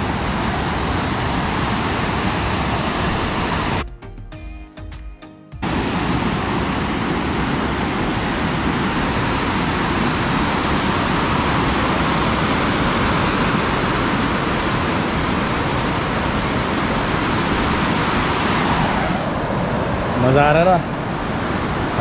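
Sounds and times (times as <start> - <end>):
waterfall rushing: 0.0 - 3.8, 5.6 - 22.0.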